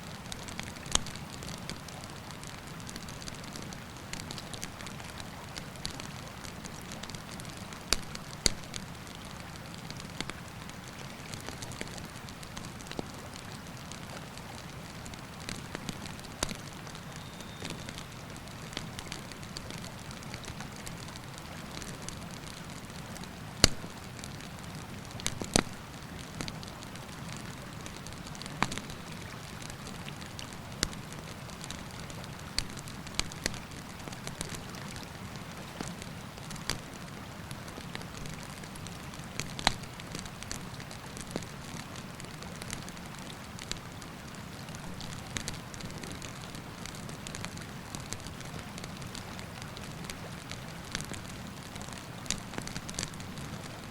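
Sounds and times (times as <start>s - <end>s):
campfire crackling and popping: 0.1s - 53.9s.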